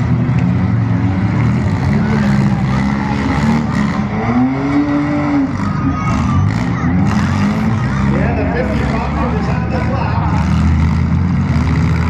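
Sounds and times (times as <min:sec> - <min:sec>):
car engines running loud: 0:00.0 - 0:12.0
engine revving up: 0:00.0 - 0:12.0.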